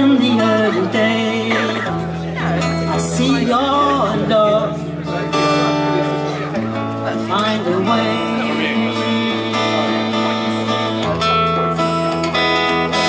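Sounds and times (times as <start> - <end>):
acoustic guitar strumming blues: 0.0 - 13.0.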